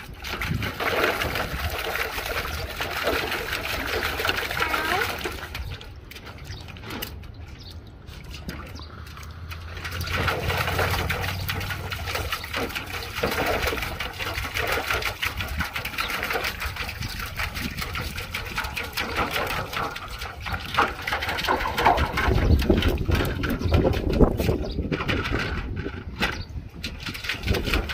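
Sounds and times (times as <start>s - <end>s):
wind rumble on microphone: 0.0s - 6.7s, 7.6s - 27.9s
water splashing in metal bowl: 0.0s - 27.9s.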